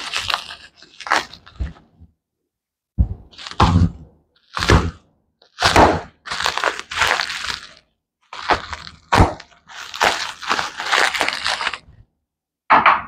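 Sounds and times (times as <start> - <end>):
plastic packaging crinkling: 0.0 - 2.0, 3.3 - 12.0.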